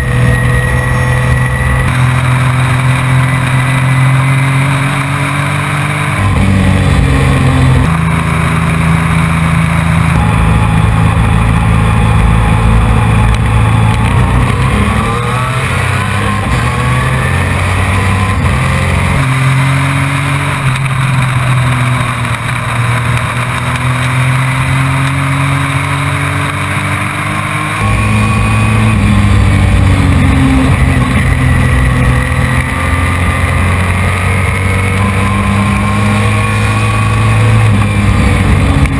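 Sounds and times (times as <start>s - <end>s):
truck engine racing: 0.0s - 38.9s.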